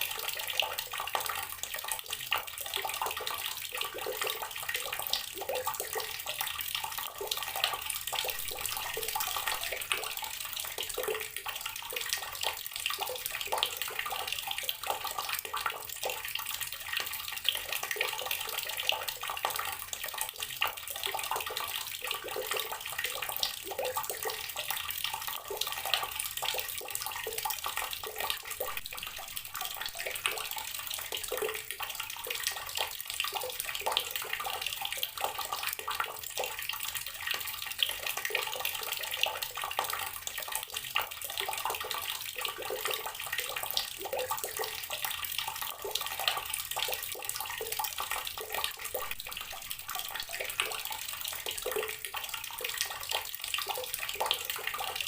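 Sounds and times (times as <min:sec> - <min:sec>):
water running from a tap: 0:00.0 - 0:55.0.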